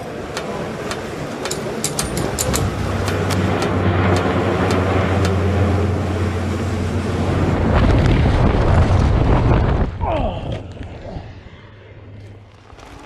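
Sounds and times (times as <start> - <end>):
rushing wind noise: 0.0 - 11.8
propeller engine drone: 0.0 - 13.0.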